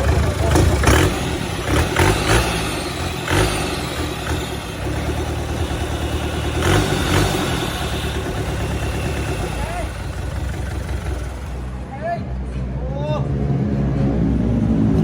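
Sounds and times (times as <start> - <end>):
diesel engine running: 0.0 - 12.7.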